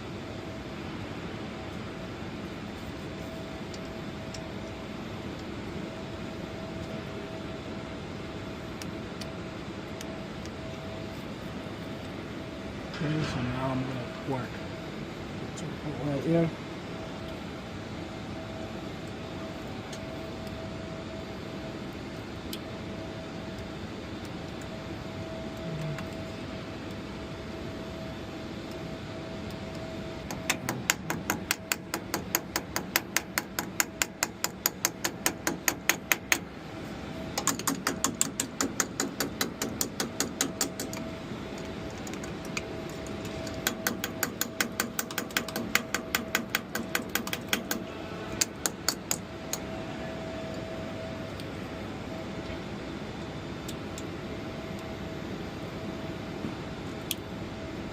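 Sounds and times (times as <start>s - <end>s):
steady hum: 0.0s - 57.9s.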